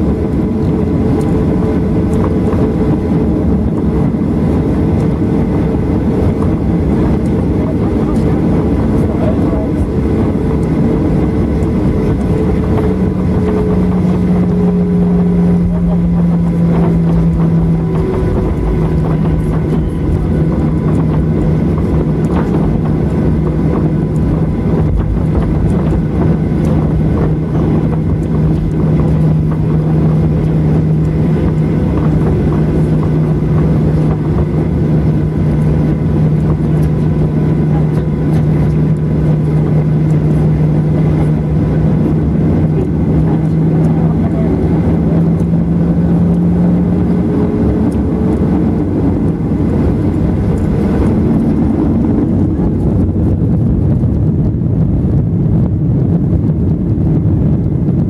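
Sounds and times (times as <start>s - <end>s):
airplane cabin hum: 0.0s - 58.0s
low rumble: 0.0s - 58.0s.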